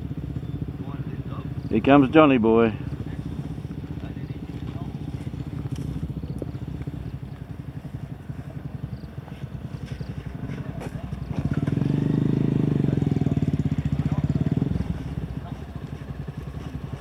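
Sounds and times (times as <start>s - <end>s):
small motorbike engine running: 0.0s - 17.0s.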